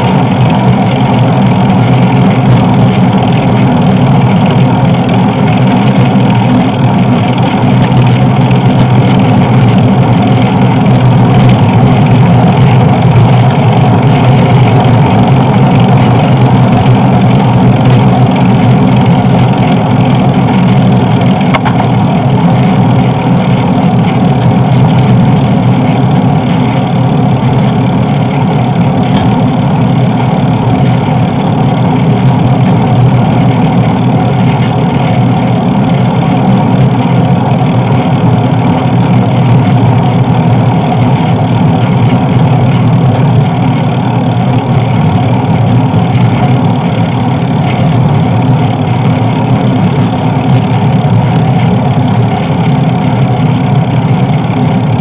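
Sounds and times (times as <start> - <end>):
bicycle tyres on road: 0.0 - 55.0.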